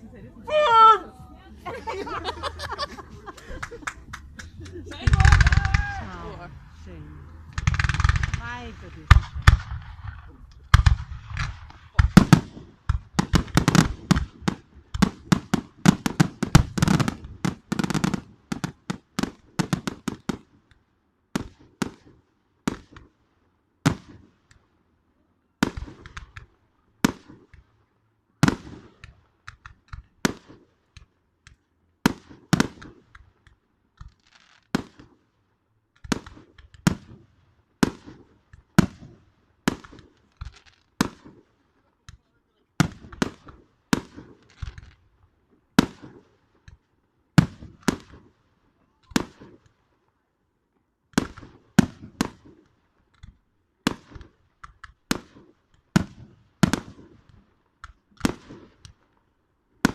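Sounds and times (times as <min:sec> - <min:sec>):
fireworks exploding: 0:01.3 - 0:20.6, 0:21.3 - 0:23.2, 0:25.6 - 0:27.7, 0:28.4 - 0:31.1, 0:32.0 - 0:46.8, 0:47.4 - 0:48.4, 0:49.0 - 0:49.9, 0:51.1 - 0:52.8, 0:53.8 - 0:57.4, 0:58.0 - 0:59.2.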